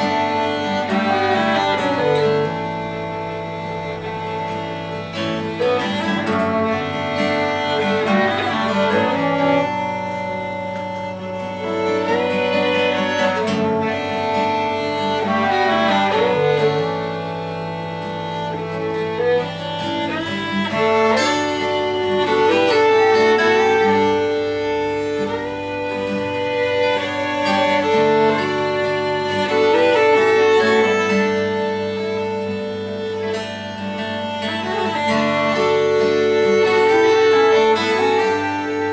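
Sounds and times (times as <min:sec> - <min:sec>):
acoustic guitar accompaniment: 0:00.0 - 0:38.9
clarinet melody: 0:00.0 - 0:38.9
violin melody: 0:00.0 - 0:38.9.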